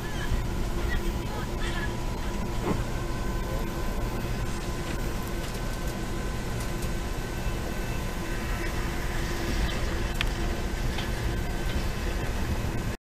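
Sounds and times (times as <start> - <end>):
faint steady whine: 0.0 - 13.0
train rumble and hiss: 0.0 - 13.0.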